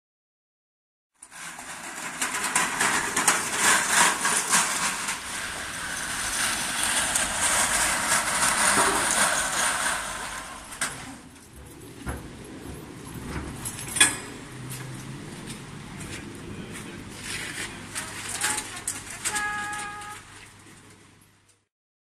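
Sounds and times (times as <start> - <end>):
trolleys rattling over paving stones: 1.2 - 21.3.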